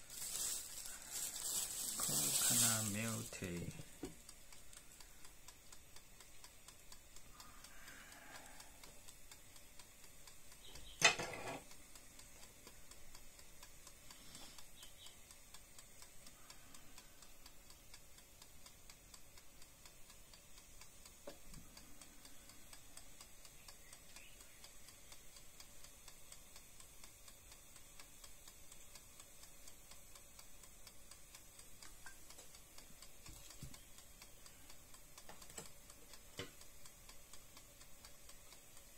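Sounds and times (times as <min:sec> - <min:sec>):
faint steady hum: 0:00.0 - 0:38.9
oil crackling in pot: 0:00.0 - 0:38.9.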